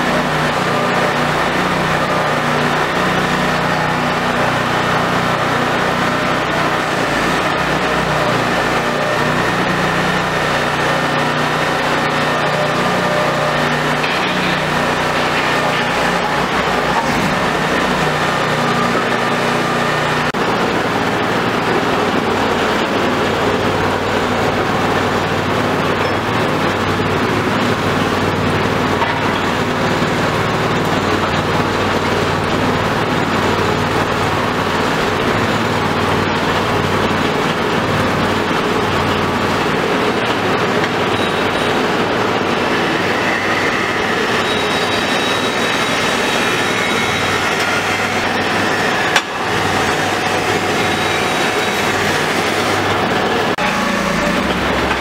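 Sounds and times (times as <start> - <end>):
drilling rig engine running: 0.0 - 55.0.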